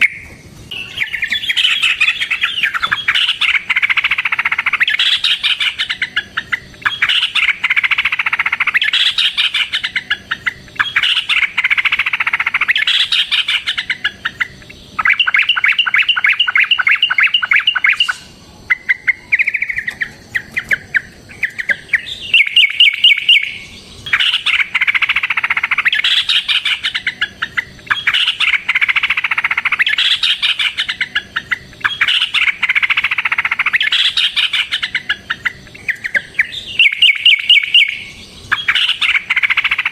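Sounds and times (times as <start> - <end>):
birds singing chattering phrases: 0.0 - 39.9.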